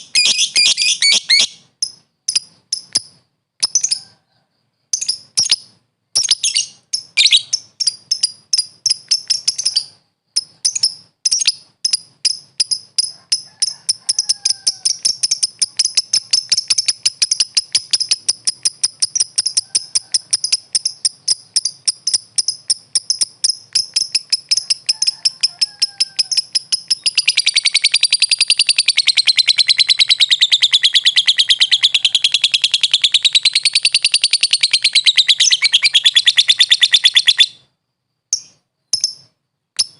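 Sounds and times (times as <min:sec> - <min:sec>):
bird chirping and trilling: 0:00.0 - 0:04.2, 0:04.9 - 0:37.7.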